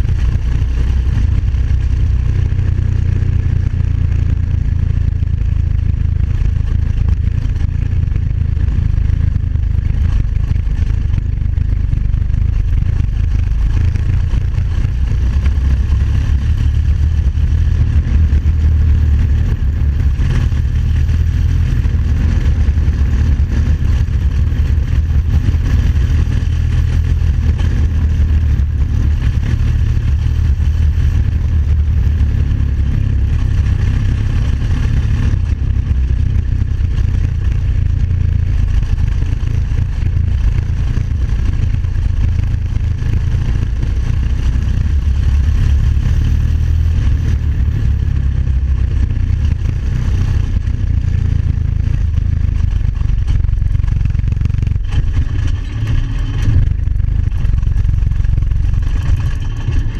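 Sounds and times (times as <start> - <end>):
buggy engine running: 0.0 - 59.9.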